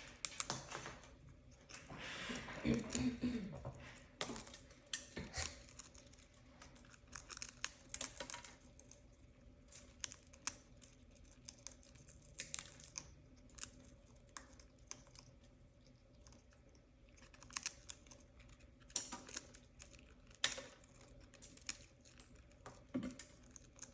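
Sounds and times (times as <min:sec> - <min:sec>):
faint steady hum: 0:00.0 - 0:23.9
parrot crunching bread: 0:00.0 - 0:23.9.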